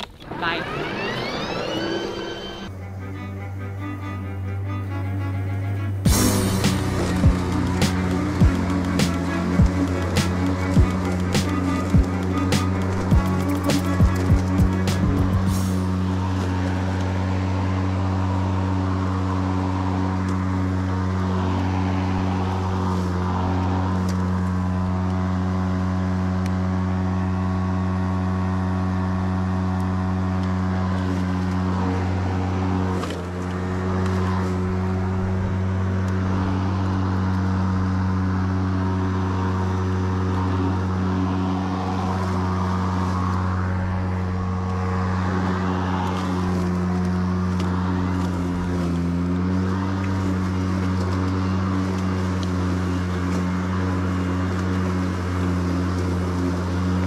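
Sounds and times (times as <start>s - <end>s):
electric lawn mower humming: 0.0s - 57.0s.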